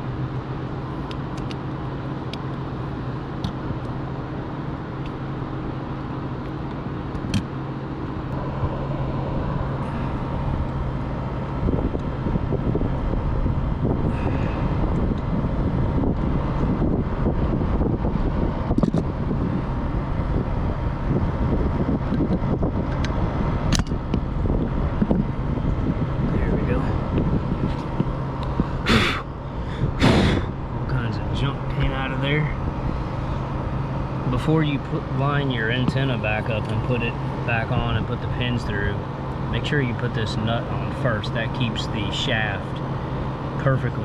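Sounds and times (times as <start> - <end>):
low rumble and hiss: 0.0 - 44.0.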